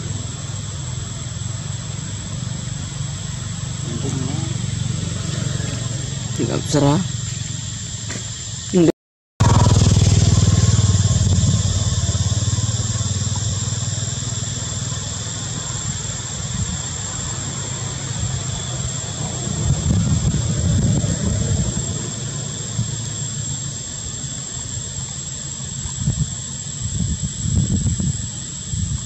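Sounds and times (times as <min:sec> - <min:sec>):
motor engine rumbling: 0:00.0 - 0:29.0
steady high-pitched tone: 0:00.0 - 0:29.0.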